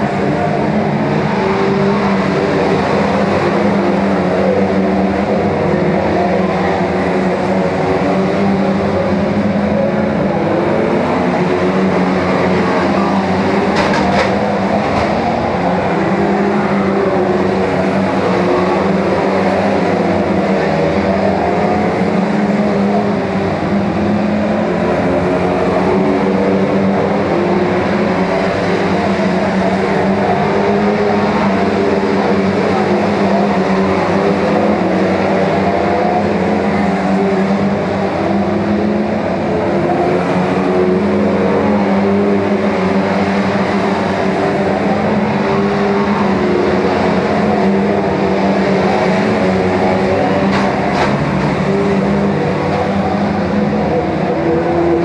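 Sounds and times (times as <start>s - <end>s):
racing car engines at high revs: 0.0s - 55.0s.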